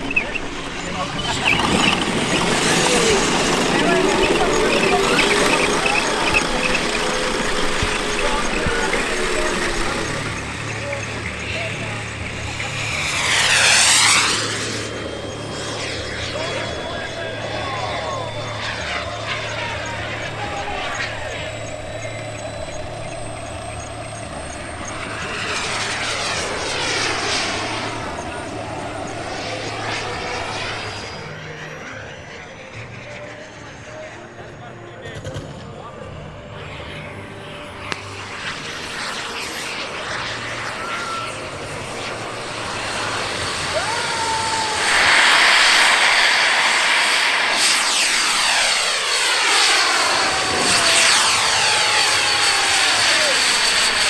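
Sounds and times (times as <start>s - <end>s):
jet passing whoosh: 0.0s - 34.6s, 35.6s - 54.0s
turbine jet engine whine: 0.0s - 54.0s.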